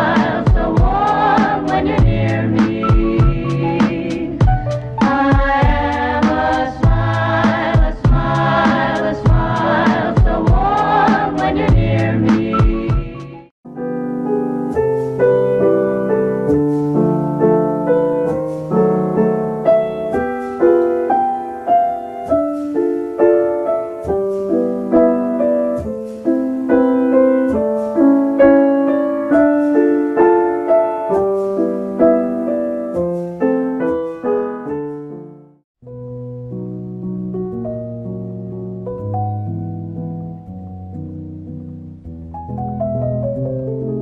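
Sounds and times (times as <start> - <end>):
gentle piano music: 0.0 - 44.0.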